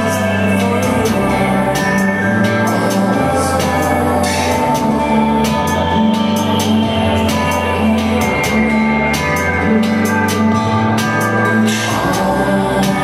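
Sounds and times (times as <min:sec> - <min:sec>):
low bass notes: 0:00.0 - 0:13.0.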